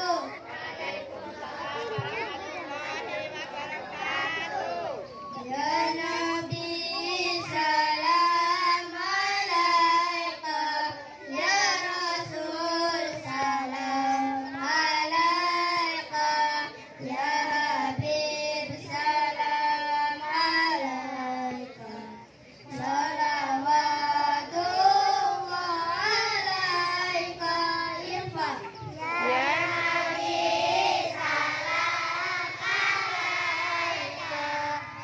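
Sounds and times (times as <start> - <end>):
children singing into microphones: 4.7 - 35.0.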